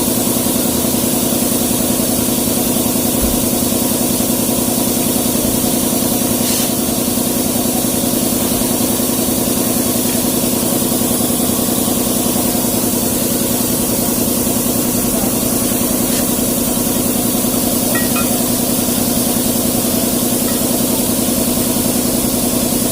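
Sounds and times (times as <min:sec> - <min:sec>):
diesel truck engine idling: 0:00.1 - 0:22.9.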